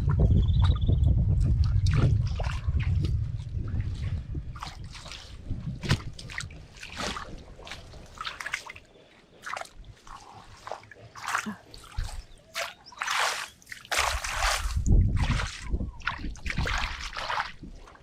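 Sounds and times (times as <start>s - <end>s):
hands splashing in muddy water: 1.4s - 18.0s.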